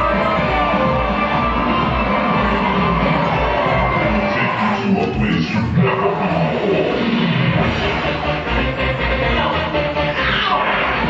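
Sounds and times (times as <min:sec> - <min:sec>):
loud dance music with beat: 0:00.0 - 0:11.0.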